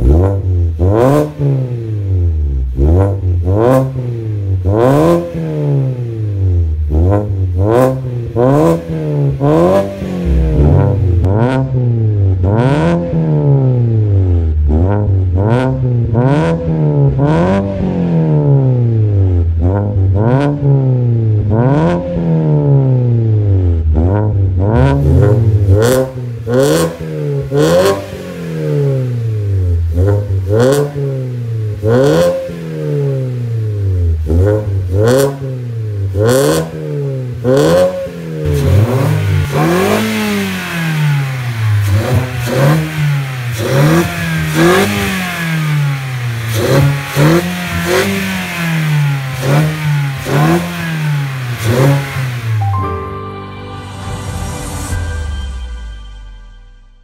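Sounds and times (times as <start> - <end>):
car engine revving: 0.0 - 52.7.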